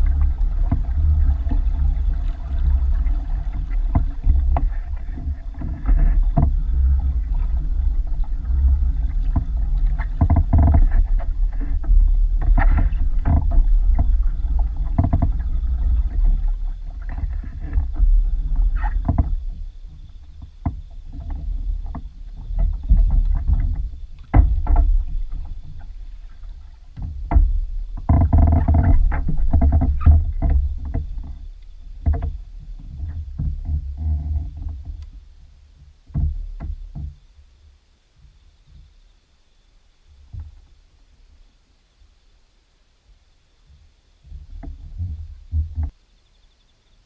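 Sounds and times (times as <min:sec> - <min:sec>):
low uneven rumble: 0:00.0 - 0:47.0.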